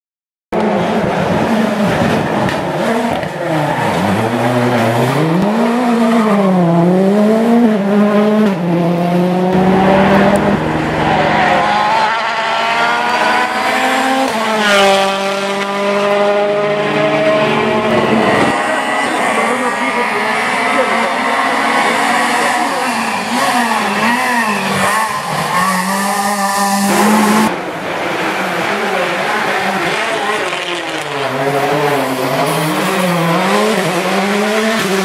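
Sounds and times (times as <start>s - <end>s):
rally car engine revving: 0.6s - 35.0s.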